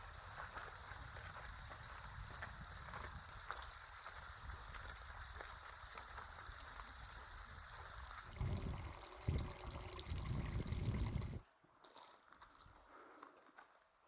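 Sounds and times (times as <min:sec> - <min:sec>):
faint running water: 0:00.0 - 0:11.4.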